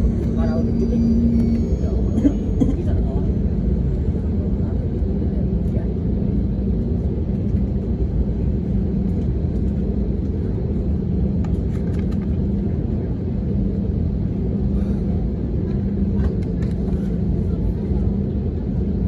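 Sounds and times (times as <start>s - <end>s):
airliner engines humming in cabin: 0.0s - 19.0s.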